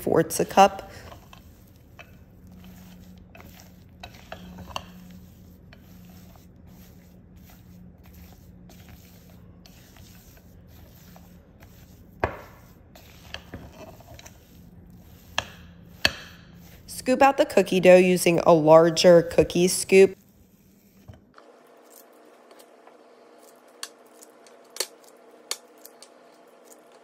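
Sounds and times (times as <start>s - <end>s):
spatula scraping dough in bowl: 0.0s - 18.4s, 19.0s - 27.0s.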